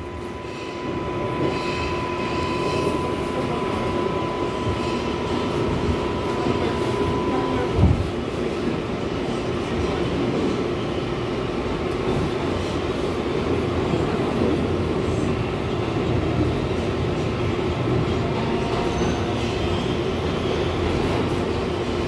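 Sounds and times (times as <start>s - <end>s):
subway wheels rumbling on rail: 0.0s - 22.0s.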